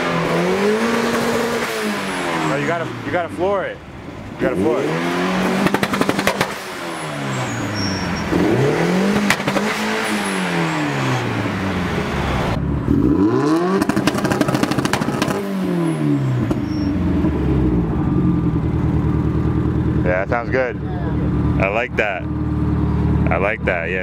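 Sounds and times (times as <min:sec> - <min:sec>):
car engine revving: 0:00.0 - 0:24.0
exhaust crackle: 0:00.0 - 0:24.0.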